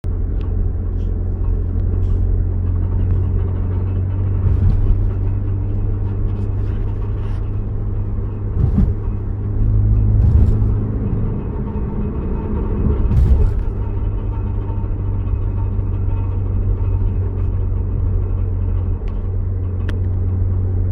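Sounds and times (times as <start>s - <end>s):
car grinding rumble: 0.0s - 20.9s.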